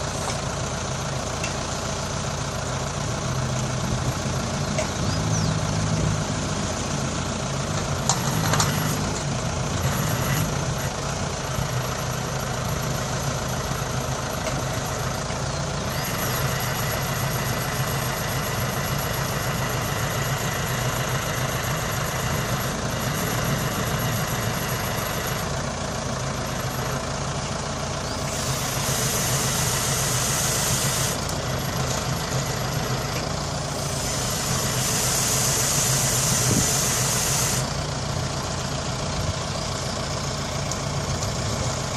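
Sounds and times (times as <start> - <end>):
loader engine running: 0.0 - 41.9.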